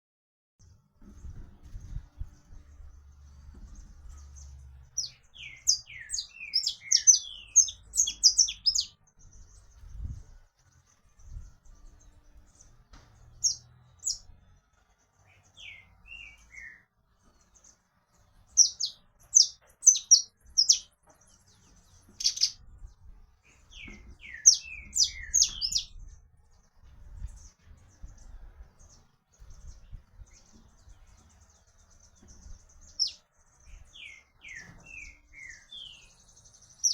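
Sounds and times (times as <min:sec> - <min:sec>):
finch singing: 0:01.0 - 0:10.3, 0:11.2 - 0:14.3, 0:15.2 - 0:36.9.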